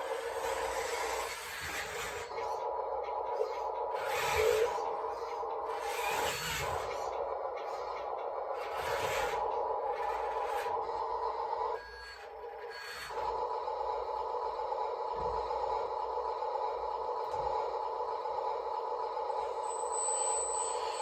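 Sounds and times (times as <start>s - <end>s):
model machine motors whining: 0.0s - 21.0s.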